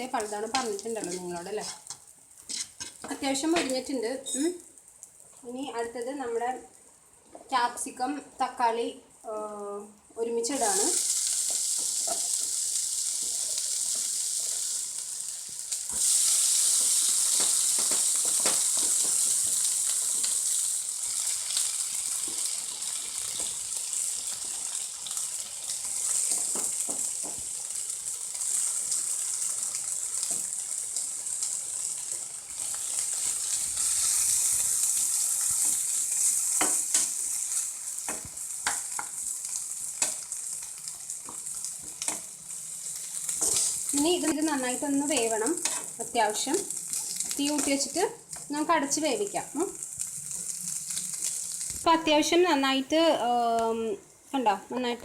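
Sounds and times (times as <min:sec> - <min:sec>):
vegetables sizzling in oil: 0:00.0 - 0:55.0.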